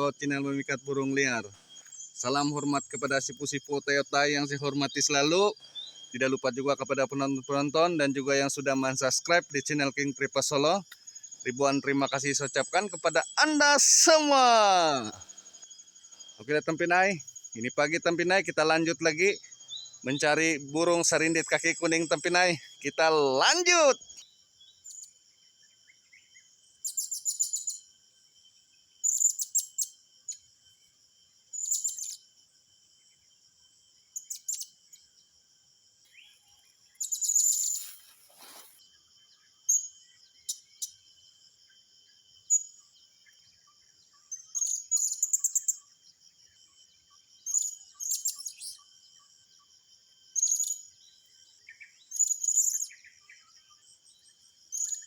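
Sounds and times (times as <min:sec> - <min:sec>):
small bird chirping: 0:00.0 - 0:28.0, 0:28.9 - 0:30.6, 0:31.4 - 0:32.4, 0:34.0 - 0:35.4, 0:36.0 - 0:55.0
high-pitched insect drone: 0:00.0 - 0:55.0.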